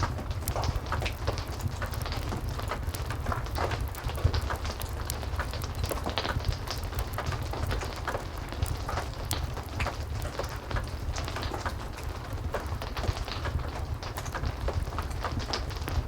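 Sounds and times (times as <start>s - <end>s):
fireplace crackling and popping: 0.0s - 16.0s.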